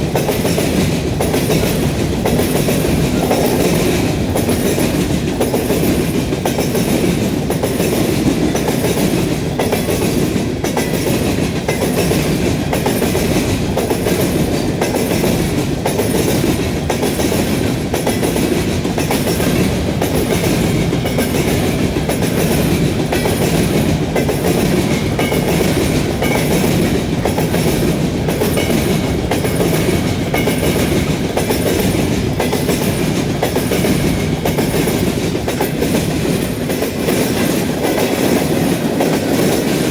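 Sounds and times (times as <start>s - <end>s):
freight train rumbling: 0.0s - 39.9s
wheels clicking over rail joints: 0.0s - 39.9s.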